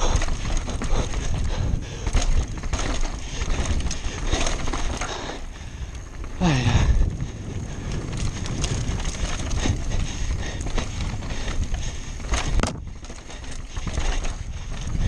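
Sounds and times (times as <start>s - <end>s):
bike clattering over rocks: 0.0s - 6.7s, 7.9s - 15.0s
bike tyres rumbling on dirt: 0.0s - 15.0s.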